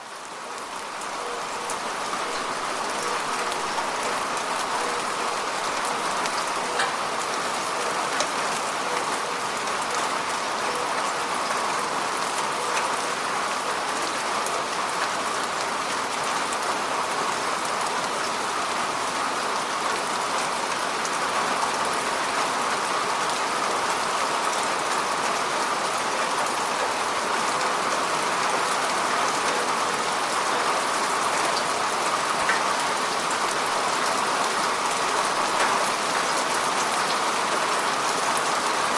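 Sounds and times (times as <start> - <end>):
rain falling on water: 0.0 - 38.9.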